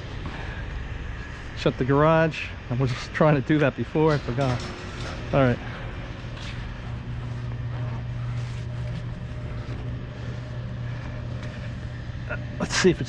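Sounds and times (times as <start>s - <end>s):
garage door opener motor hum: 0.0s - 13.0s.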